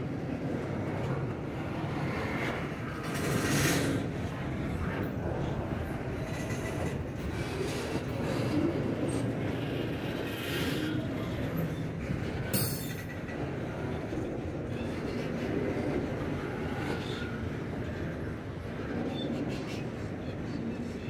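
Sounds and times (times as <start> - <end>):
steel wheels on rails: 0.0 - 21.0.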